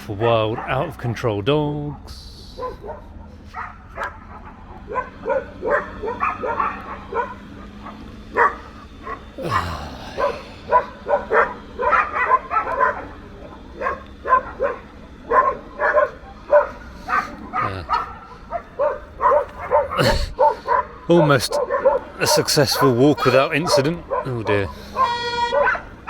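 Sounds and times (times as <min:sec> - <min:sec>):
dogs barking: 0:00.0 - 0:26.0.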